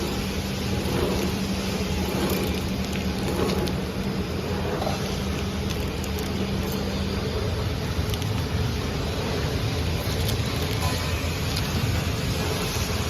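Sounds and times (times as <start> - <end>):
noisy whir: 0.0 - 13.0
wrapping machine hum: 0.0 - 13.0.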